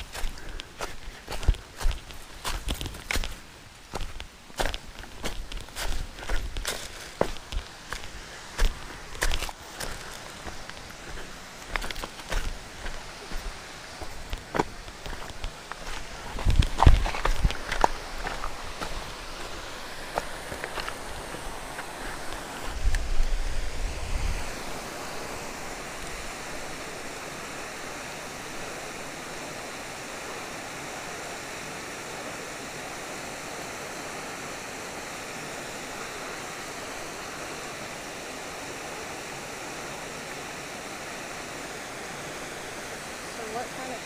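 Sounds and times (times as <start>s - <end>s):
water rushing over a weir: 5.1s - 44.0s.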